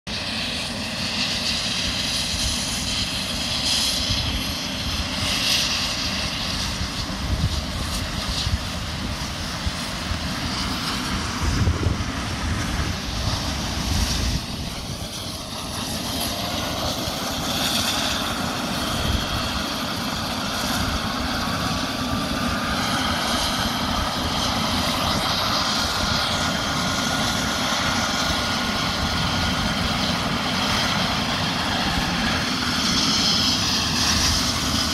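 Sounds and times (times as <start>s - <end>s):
helicopter turbine whine: 0.1s - 34.9s.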